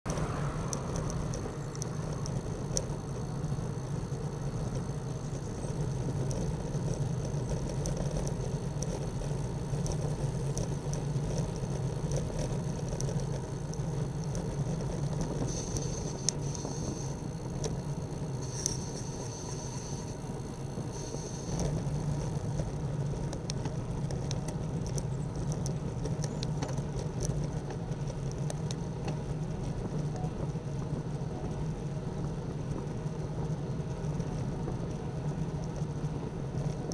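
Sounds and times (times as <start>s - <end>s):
bicycle tyres rumbling on road: 0.1s - 36.9s
bike clicks and rattles: 0.1s - 36.9s.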